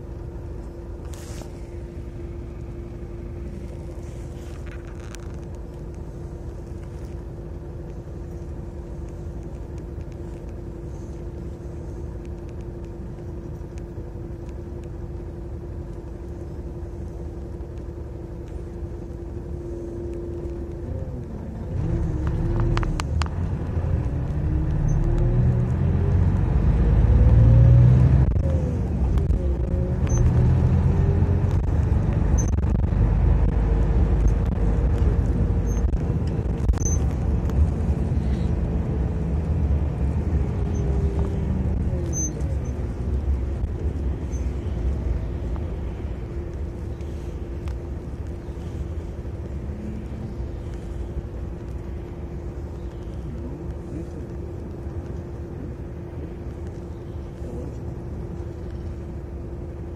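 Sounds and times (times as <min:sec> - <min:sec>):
bus engine idling and accelerating: 0:00.0 - 0:59.9.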